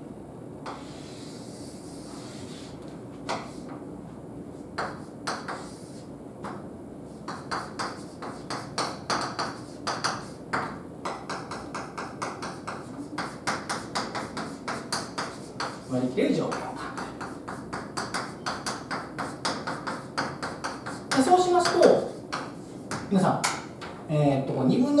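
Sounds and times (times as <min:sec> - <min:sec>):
chalk tapping on blackboard: 0:00.6 - 0:03.8, 0:04.6 - 0:23.9.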